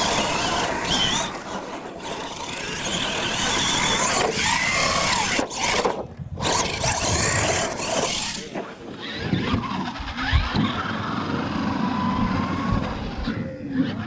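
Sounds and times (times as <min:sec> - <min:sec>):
tyres on dirt: 0:00.0 - 0:13.2
toy truck motor whining: 0:00.0 - 0:14.0.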